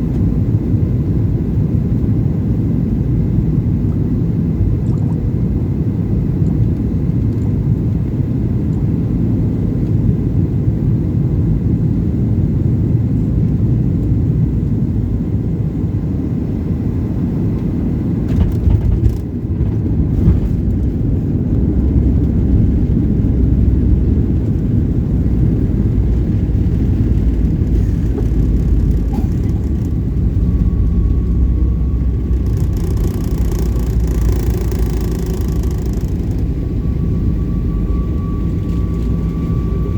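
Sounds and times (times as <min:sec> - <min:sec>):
engine and airflow rumble: 0:00.0 - 0:39.9.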